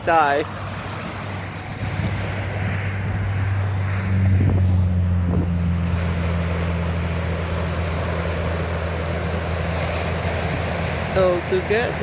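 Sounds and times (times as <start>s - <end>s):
waves hissing: 0.0s - 12.0s
wind rumbling on microphone: 0.0s - 12.0s.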